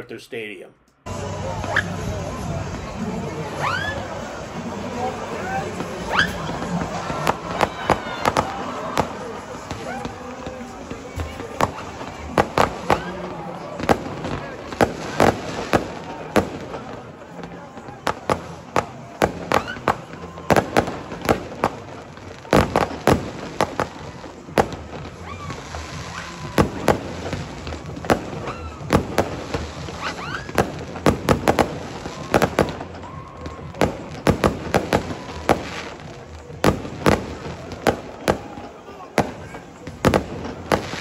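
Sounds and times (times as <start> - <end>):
fireworks bangs and crackling: 1.1 - 41.0.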